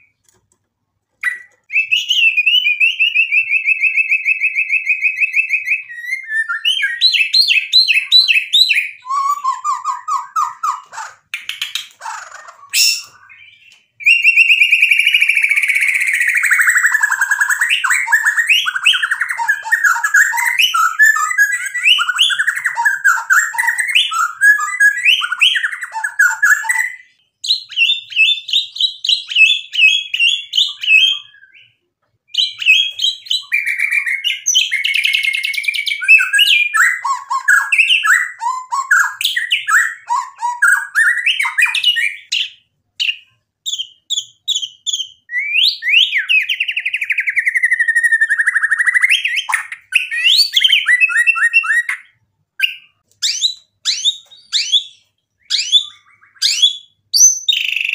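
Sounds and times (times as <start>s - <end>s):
bird singing trills and whistles: 1.2s - 57.9s.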